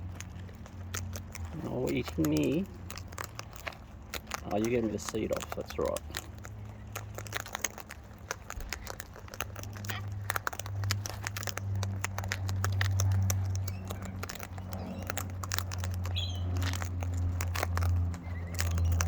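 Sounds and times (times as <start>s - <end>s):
birds pecking seed clicks: 0.0s - 19.0s
low steady hum: 0.0s - 19.0s.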